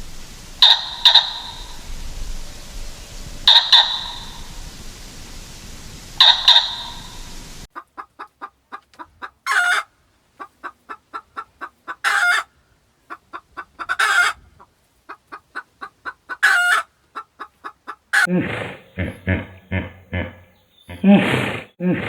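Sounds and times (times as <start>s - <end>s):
chicken squawking loudly: 0.6s - 1.8s, 3.4s - 4.5s, 6.2s - 21.6s
chicken clucking: 0.6s - 1.9s, 3.4s - 4.6s, 6.2s - 21.7s.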